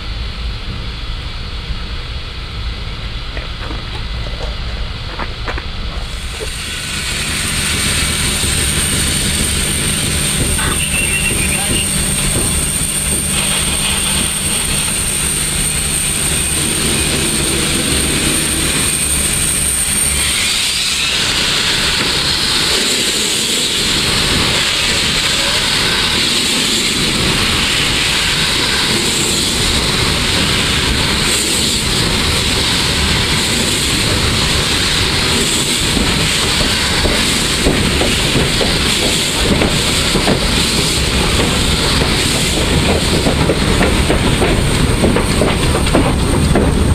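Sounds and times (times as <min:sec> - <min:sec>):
loud steam hiss: 0:00.0 - 0:46.9
steam locomotive working: 0:00.0 - 0:46.9
wheels clattering on rails: 0:03.3 - 0:46.9.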